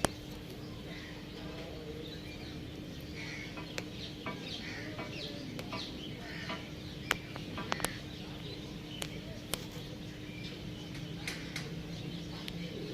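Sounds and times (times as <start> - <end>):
birds clucking and chirping: 0.0 - 12.9
faint steady hum: 0.0 - 12.9.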